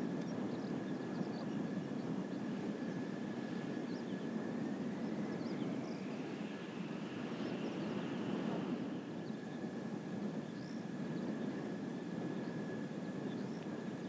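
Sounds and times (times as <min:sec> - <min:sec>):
higher rising jet whine: 0:00.0 - 0:14.0
jet engines rumbling with whine: 0:00.0 - 0:14.0.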